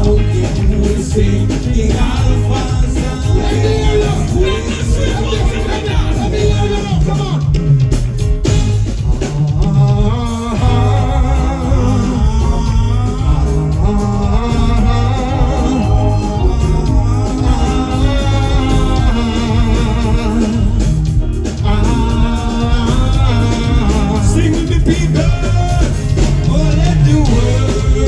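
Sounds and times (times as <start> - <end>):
live band music: 0.0 - 28.0
voices singing: 0.0 - 28.0.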